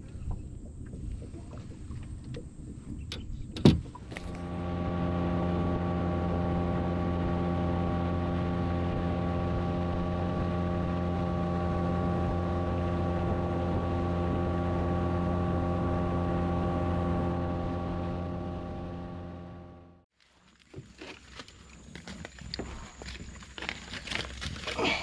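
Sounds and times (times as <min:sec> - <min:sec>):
outboard motor running: 0:00.0 - 0:20.0
wind: 0:00.0 - 0:25.0.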